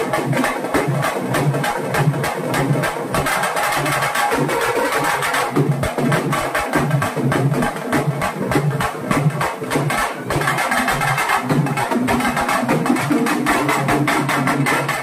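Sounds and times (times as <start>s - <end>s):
marching drums playing rhythm: 0.0s - 15.0s.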